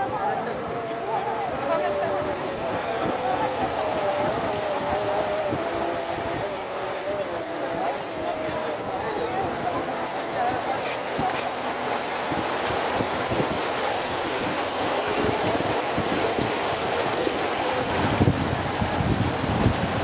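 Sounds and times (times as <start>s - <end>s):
water splashing along boat hull: 0.0s - 20.0s
wind buffeting microphone: 0.0s - 20.0s.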